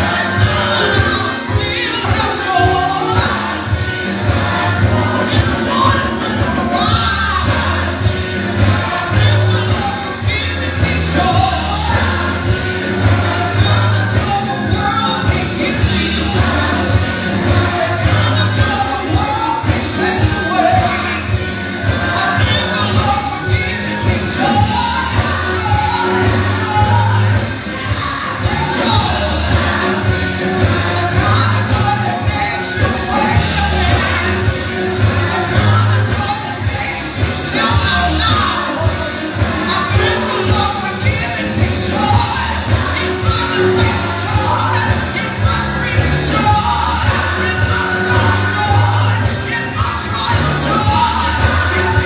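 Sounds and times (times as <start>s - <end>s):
gospel singing with band: 0.0s - 52.0s
steady bass line: 0.0s - 52.0s.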